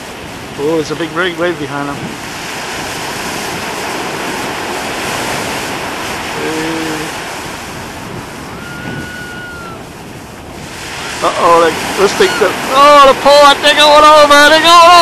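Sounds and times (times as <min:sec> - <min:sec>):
breaking sea waves: 0:00.0 - 0:15.0
wind on microphone: 0:00.0 - 0:15.0.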